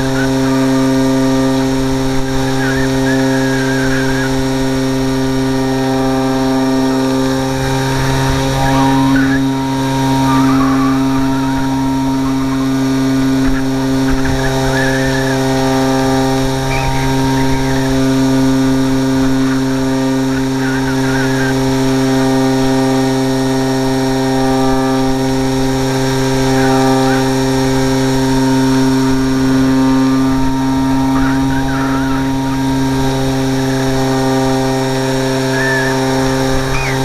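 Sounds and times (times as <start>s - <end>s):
electric motor and propeller: 0.0s - 37.0s.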